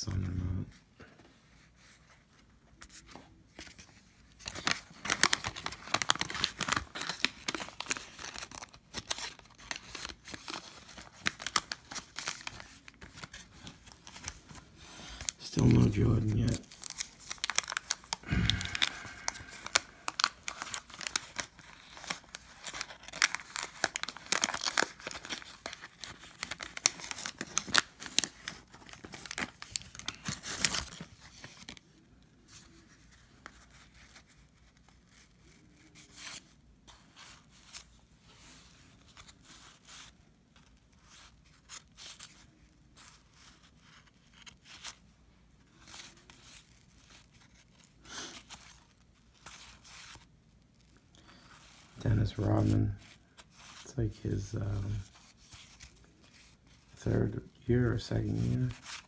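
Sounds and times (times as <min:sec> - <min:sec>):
wax paper wrapper crinkling: 0:03.5 - 0:59.0.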